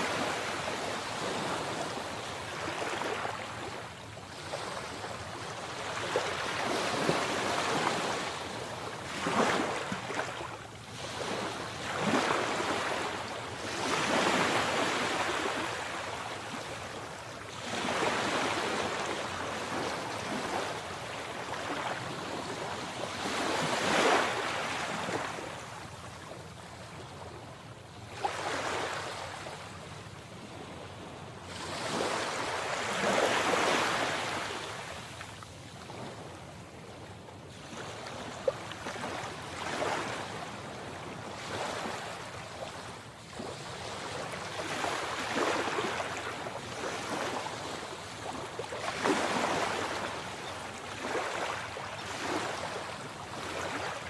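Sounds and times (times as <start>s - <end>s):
sea waves breaking on shore: 0.0s - 27.4s, 28.0s - 29.8s, 30.4s - 36.4s, 37.5s - 54.0s.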